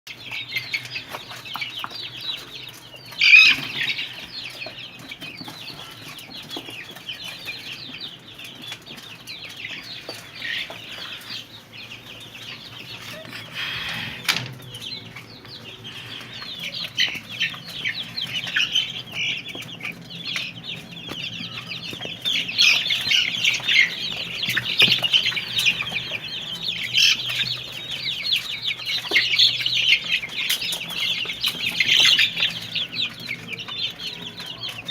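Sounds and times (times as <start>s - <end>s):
chickens peeping and clucking: 0.1s - 34.9s.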